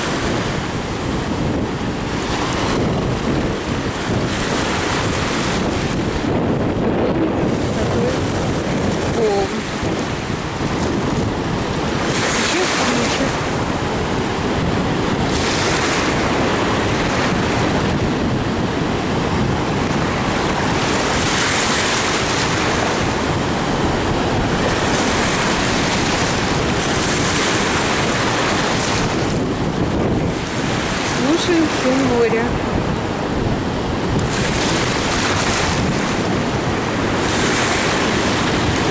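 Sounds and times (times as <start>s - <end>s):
waves breaking on shore: 0.0s - 38.9s
wind buffeting microphone: 0.0s - 38.9s.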